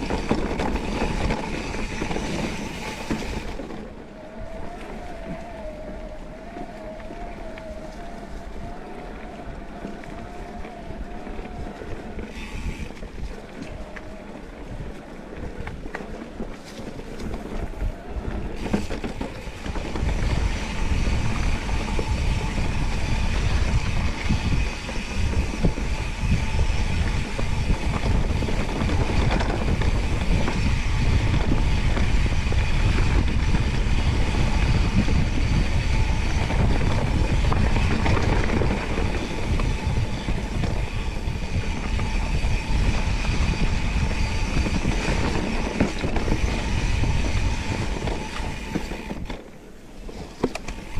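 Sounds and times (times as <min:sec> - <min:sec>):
bike rattling: 0:00.0 - 0:50.9
bike tyres on dirt and rock: 0:00.0 - 0:50.9
wind rumble on microphone: 0:00.0 - 0:50.9.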